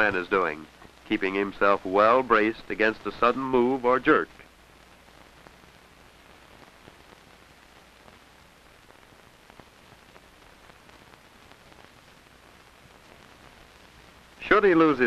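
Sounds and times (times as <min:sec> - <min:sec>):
film soundtrack hiss: 0:00.0 - 0:15.0
small crackles and pops: 0:00.0 - 0:15.0.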